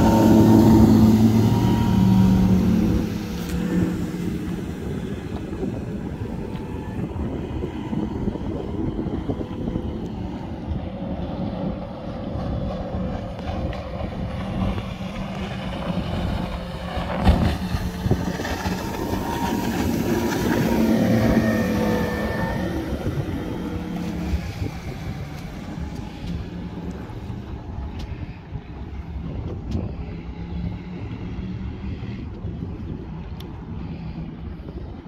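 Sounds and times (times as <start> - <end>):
motorboat engine running: 0.0 - 35.0
wind on microphone: 0.0 - 35.0.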